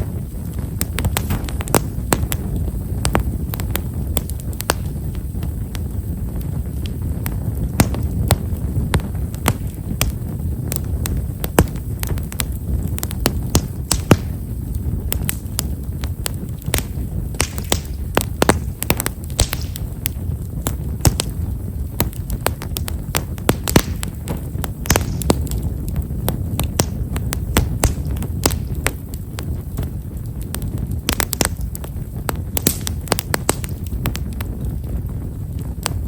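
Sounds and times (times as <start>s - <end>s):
firewood crackling and popping: 0.0s - 36.0s
flames rushing: 0.0s - 36.0s.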